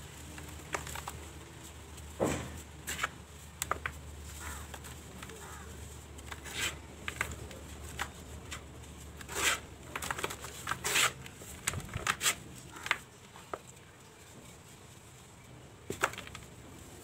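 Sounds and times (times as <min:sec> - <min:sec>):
dirt clumps crushed by hand: 0:00.0 - 0:13.6
powder sifting: 0:00.0 - 0:15.3.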